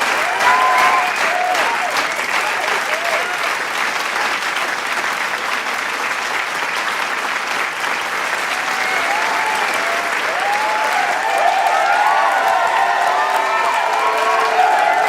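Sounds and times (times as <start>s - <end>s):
people cheering: 0.0s - 5.5s, 6.2s - 15.0s
crowd clapping: 0.0s - 15.0s.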